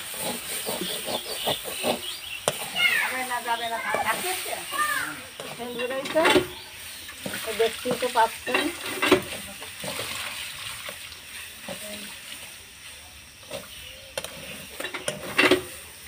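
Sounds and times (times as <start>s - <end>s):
spatula scraping greens in pan: 0.0s - 16.0s
soft wet hiss: 1.8s - 14.9s.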